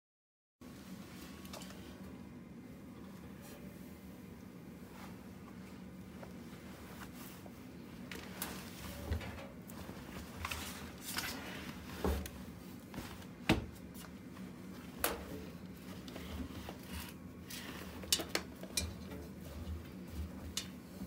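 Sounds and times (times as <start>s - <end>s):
faint steady hum: 0.6s - 21.0s.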